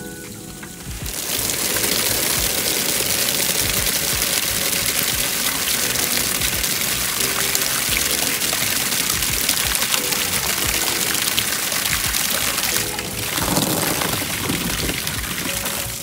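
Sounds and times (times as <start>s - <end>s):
water spraying from a hose: 0.0s - 16.0s
water splashing into rubber pan: 0.9s - 16.0s.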